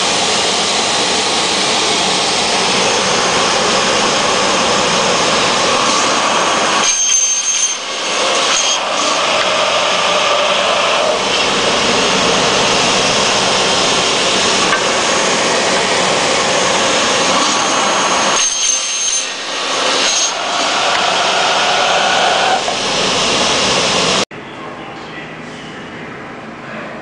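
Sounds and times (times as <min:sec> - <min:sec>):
miter saw cutting aluminium: 0:00.0 - 0:24.2.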